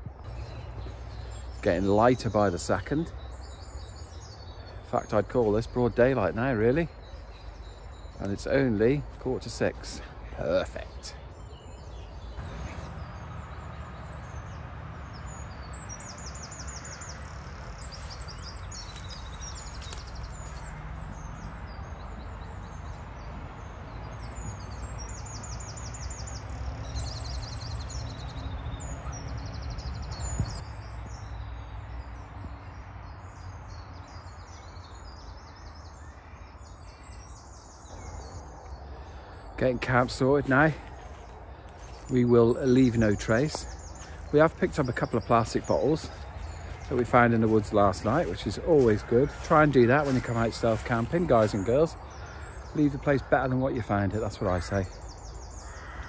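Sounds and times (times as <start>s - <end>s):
birds singing rapid trills: 0.0s - 56.0s.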